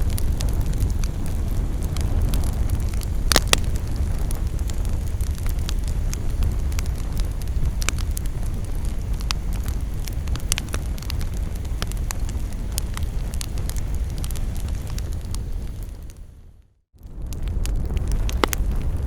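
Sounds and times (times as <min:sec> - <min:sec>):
wood crackling and popping: 0:00.0 - 0:16.3, 0:17.0 - 0:19.0
fire low rumble: 0:00.0 - 0:19.0.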